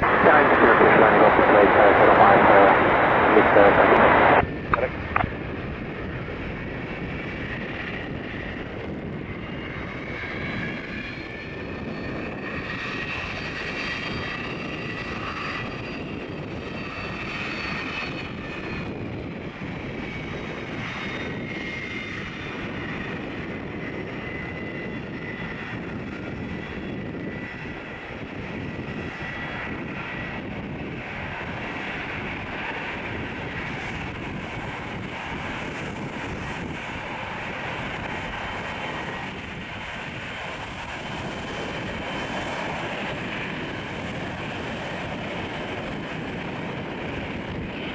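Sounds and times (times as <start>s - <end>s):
jet engines whining: 0.0s - 47.9s
wind noise on microphone: 0.0s - 47.9s.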